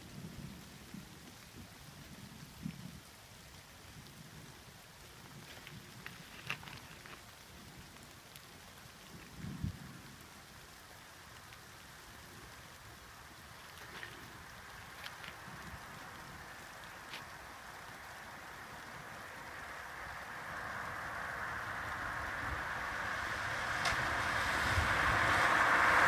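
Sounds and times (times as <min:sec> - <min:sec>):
light rain falling: 0:00.0 - 0:26.0
raindrops ticking: 0:00.1 - 0:26.0.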